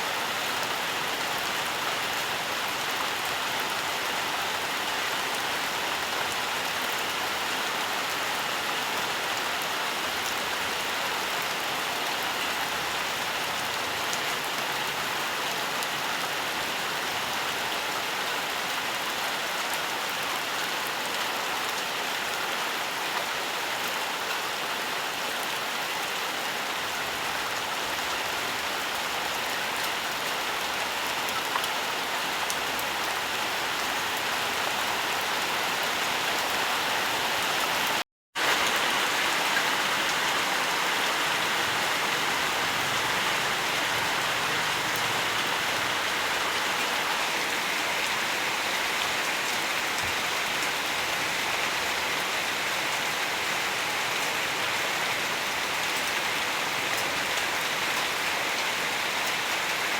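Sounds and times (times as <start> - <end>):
rain hiss in forest: 0.0 - 59.9.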